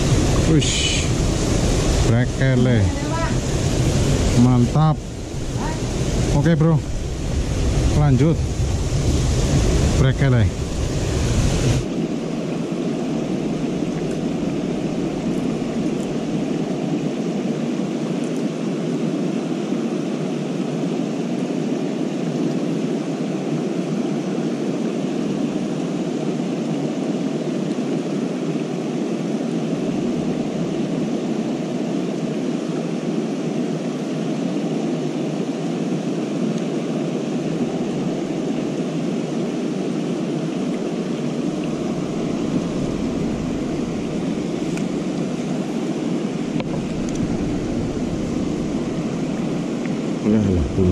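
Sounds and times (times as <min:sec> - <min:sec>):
river flowing: 0:00.0 - 0:50.9.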